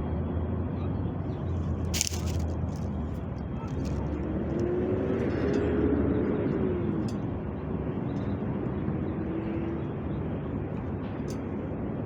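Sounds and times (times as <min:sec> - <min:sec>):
city traffic noise: 0:00.0 - 0:12.0
vehicle engine: 0:00.0 - 0:12.0.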